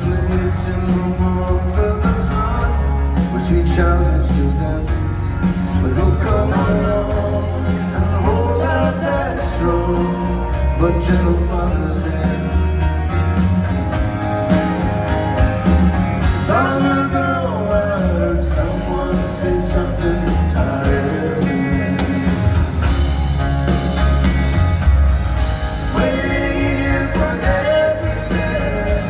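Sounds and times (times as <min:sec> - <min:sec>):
man singing: 0:00.0 - 0:13.4, 0:16.2 - 0:23.2, 0:25.6 - 0:29.0
live rock band: 0:00.0 - 0:29.0.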